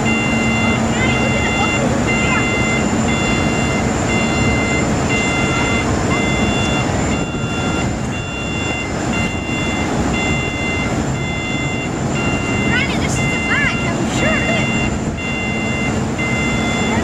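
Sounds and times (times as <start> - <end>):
ferry engine and wind rumble: 0.0 - 17.0
high multi-tone warning beeps: 0.0 - 17.0.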